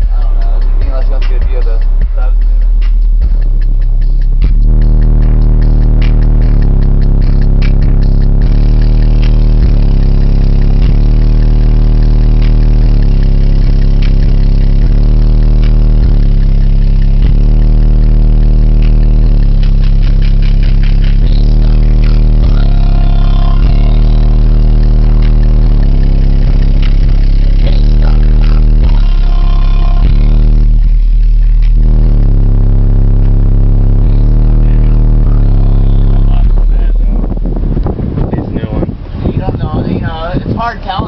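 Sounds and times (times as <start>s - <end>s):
bass-heavy music from subwoofers: 0.0s - 41.0s.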